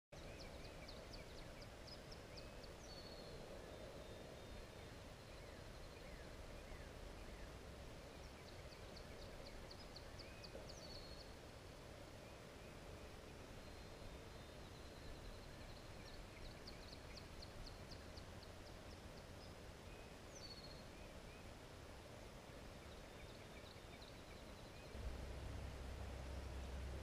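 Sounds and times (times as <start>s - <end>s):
faint outdoor background noise: 0.1s - 27.0s
songbird singing with trill: 0.2s - 11.4s, 12.2s - 21.6s, 22.8s - 27.0s.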